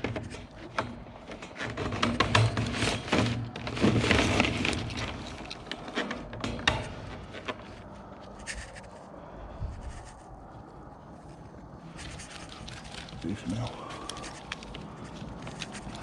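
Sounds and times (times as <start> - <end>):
objects scraping and clattering: 0.0 - 9.1, 11.9 - 16.0.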